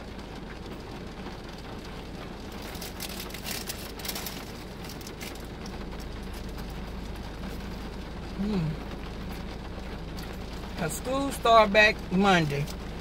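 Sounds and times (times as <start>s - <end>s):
car interior hum: 0.0s - 13.0s
rain pattering on car body: 0.0s - 13.0s.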